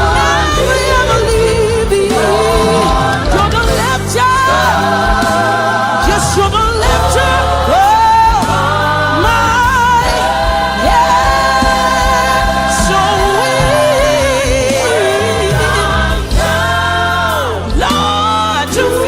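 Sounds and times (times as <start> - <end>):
gospel choir singing: 0.0 - 19.0
instrumental accompaniment with bass and beat: 0.0 - 19.0.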